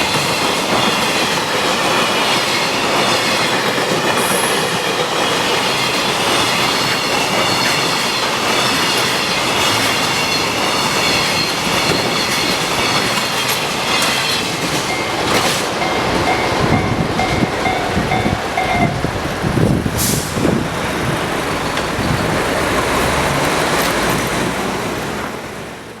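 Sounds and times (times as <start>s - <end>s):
train wagons rumbling: 0.0s - 26.0s.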